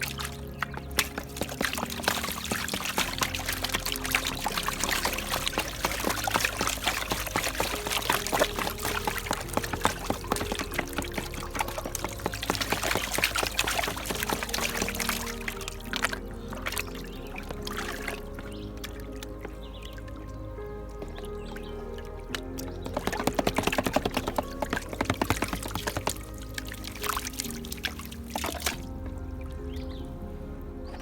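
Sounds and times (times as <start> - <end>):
gravel rattling in a pan: 0.0 - 19.8, 22.4 - 28.8
water sloshing in a pan: 0.0 - 29.4
background music: 0.0 - 31.0.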